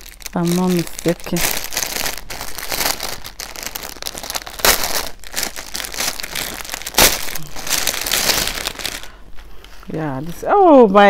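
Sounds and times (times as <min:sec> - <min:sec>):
packaging crackles: 0:00.0 - 0:10.5
packaging crinkling and rustling: 0:00.0 - 0:11.0.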